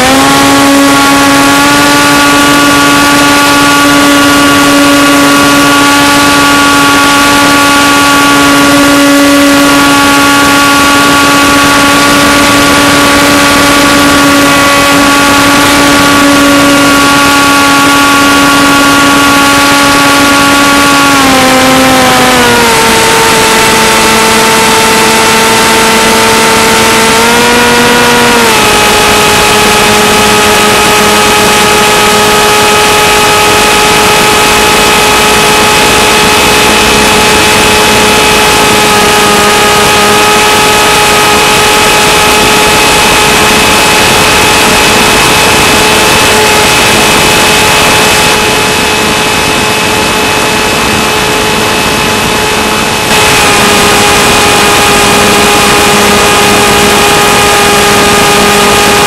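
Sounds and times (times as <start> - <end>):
electric motor and propeller whining: 0.0 - 59.0
loud steady hiss: 0.1 - 59.0.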